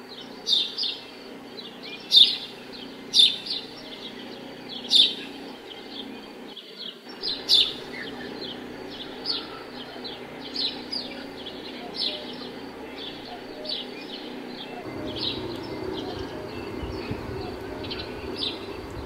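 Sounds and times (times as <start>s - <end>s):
low hum: 0.0s - 19.0s
small birds chirping: 0.0s - 19.0s.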